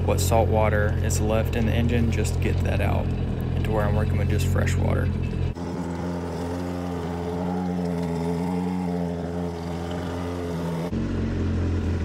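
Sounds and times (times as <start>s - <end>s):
jet ski engine idling: 0.0s - 12.0s.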